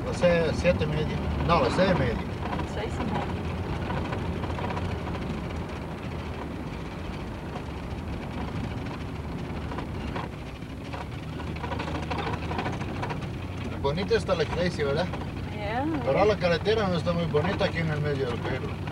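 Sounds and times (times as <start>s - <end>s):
car engine drone: 0.0s - 18.9s.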